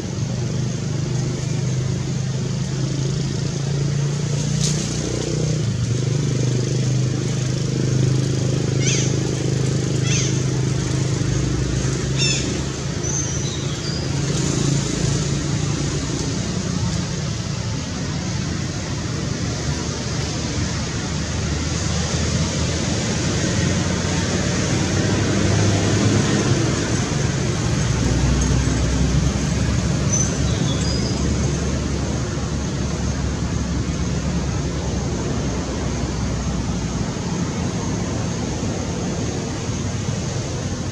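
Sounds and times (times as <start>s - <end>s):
outdoor rumble and hiss: 0.0s - 40.9s.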